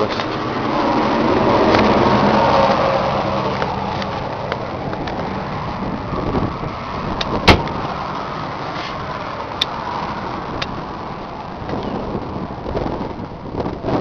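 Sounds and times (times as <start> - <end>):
rushing wind: 0.0 - 14.0.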